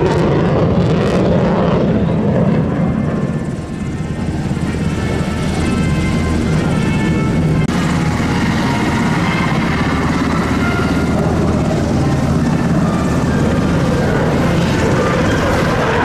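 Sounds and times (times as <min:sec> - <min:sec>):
fighter jet noise: 0:00.0 - 0:16.0.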